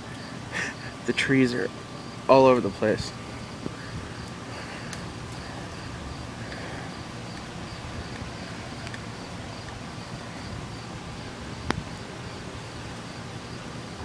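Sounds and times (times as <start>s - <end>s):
faint outdoor hiss: 0.0s - 14.0s
insects chirping in pulsing trill: 0.0s - 14.0s.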